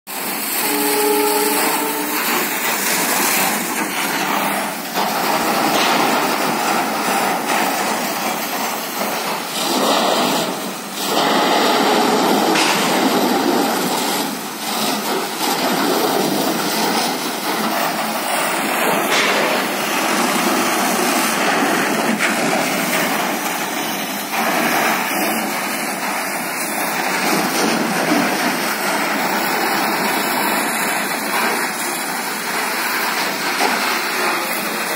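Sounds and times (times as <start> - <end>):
hose jet spraying water: 0.1 - 34.9.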